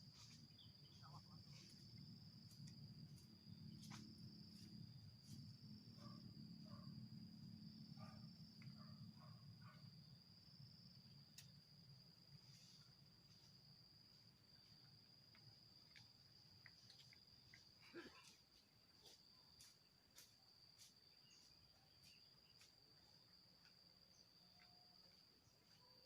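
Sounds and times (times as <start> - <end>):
cricket chirring: 0.0 - 26.0.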